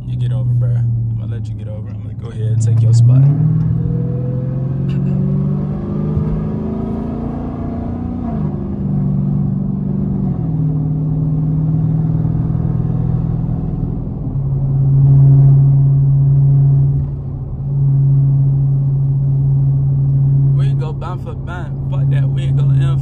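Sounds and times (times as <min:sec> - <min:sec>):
car engine drone from inside: 0:00.0 - 0:23.0.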